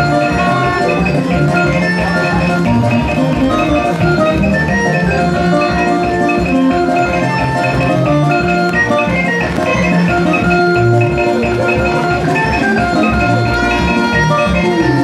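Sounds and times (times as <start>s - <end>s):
music with a beat: 0.0s - 15.0s.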